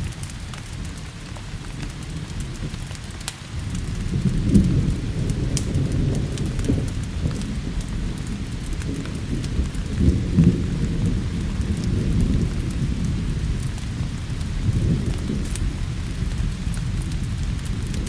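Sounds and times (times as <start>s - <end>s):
steady rain: 0.0s - 18.0s
thunder rolling: 3.5s - 18.0s.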